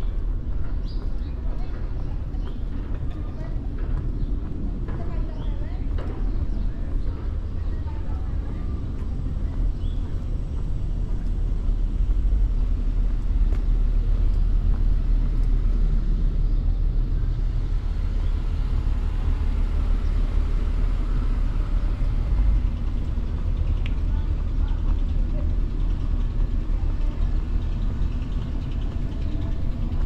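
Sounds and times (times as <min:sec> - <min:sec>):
city street background rumble: 0:00.0 - 0:30.0.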